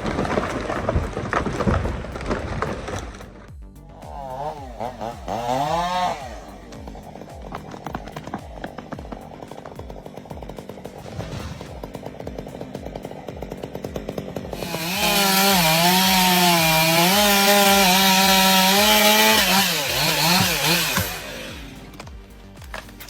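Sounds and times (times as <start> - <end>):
chainsaw cutting wood: 0.0 - 23.0
background music with steady beat: 3.0 - 23.0.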